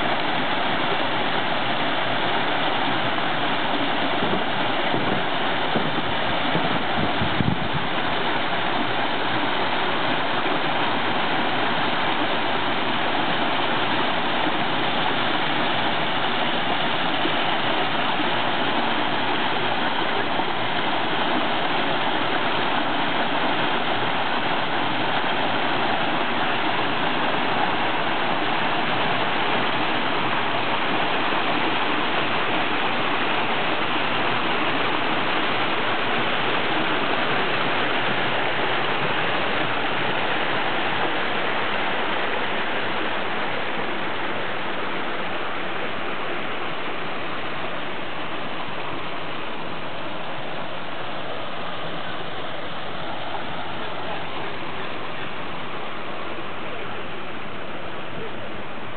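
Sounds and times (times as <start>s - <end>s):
water falling over stone steps: 0.0s - 58.9s.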